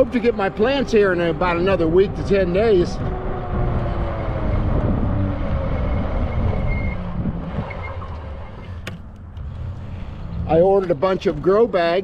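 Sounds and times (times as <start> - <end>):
wind rumble on microphone: 0.0 - 10.8.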